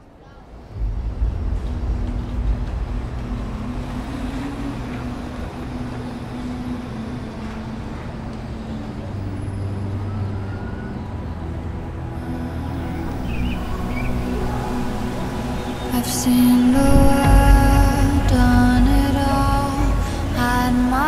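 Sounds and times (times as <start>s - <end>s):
city traffic rumble: 0.0s - 21.0s
long held low notes: 0.0s - 21.0s.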